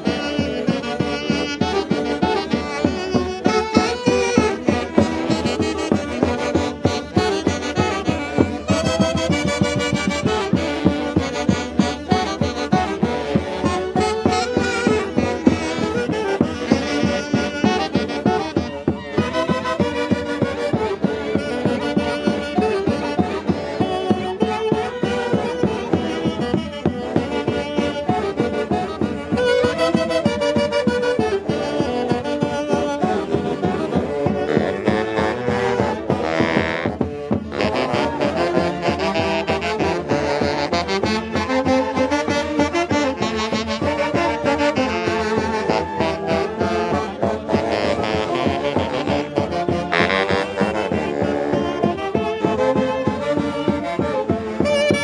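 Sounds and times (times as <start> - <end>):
saxophones: 0.0 - 55.0
steady beat: 0.0 - 55.0.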